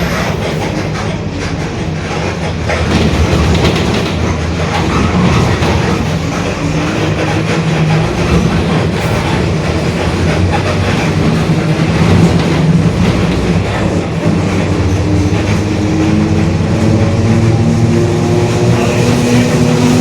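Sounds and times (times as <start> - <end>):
bus body rattles: 0.0 - 20.0
diesel bus engine drone: 0.0 - 20.0.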